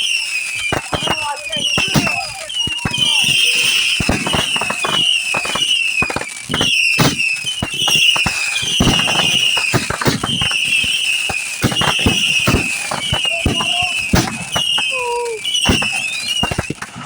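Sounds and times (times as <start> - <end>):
firework crackling pops and bangs: 0.0 - 17.0
firework whistles: 0.0 - 17.0.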